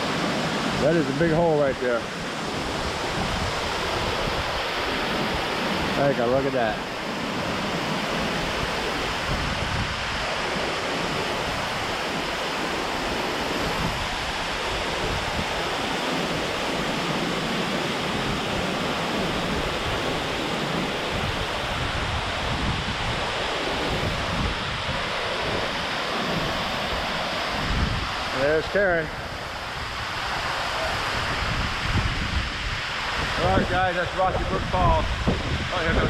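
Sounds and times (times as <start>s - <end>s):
waterfall rushing: 0.0s - 36.0s
wind rumbling on microphone: 0.0s - 36.0s.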